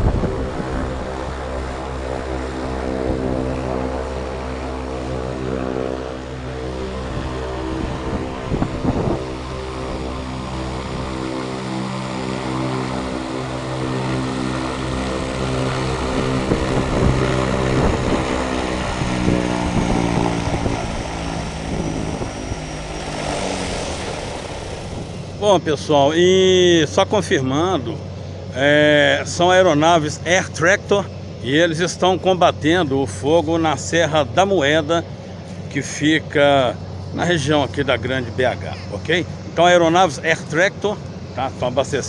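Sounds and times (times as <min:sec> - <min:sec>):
high thin whine: 0:00.0 - 0:42.0
propeller aircraft droning: 0:00.0 - 0:42.0.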